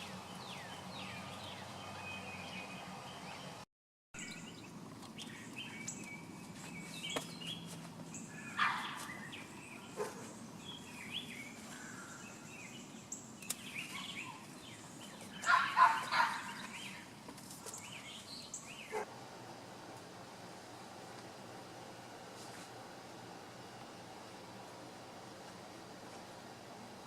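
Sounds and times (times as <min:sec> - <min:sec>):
small birds chirping: 0:00.0 - 0:03.6, 0:04.2 - 0:26.4
steady background hiss: 0:04.2 - 0:27.0.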